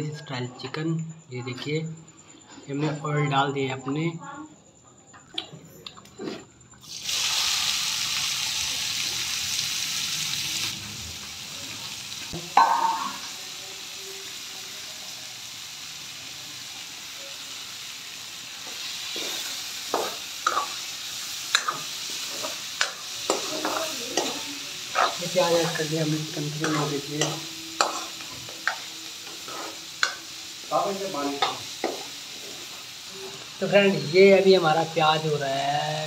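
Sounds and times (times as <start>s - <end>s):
onions sizzling in hot oil: 6.8s - 36.0s.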